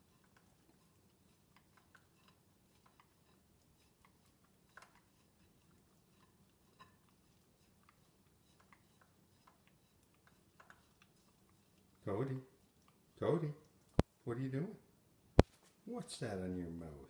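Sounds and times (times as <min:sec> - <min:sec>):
dog licking plates: 0:00.0 - 0:14.0.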